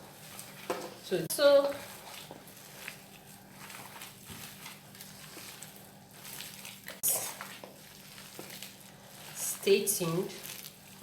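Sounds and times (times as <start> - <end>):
soap paste squishing: 0.0 - 11.0.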